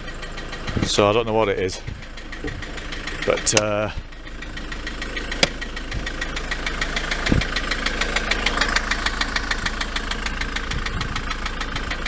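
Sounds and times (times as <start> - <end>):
van engine idling with ticking knock: 0.0 - 12.0.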